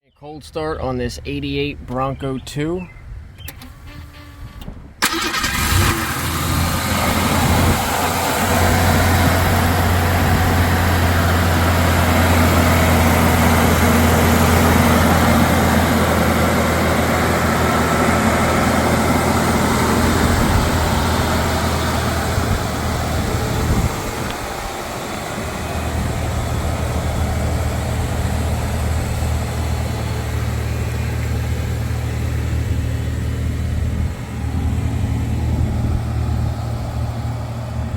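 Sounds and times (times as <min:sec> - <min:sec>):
car engine cold start: 0:03.4 - 0:35.7
car engine idling: 0:05.0 - 0:37.9.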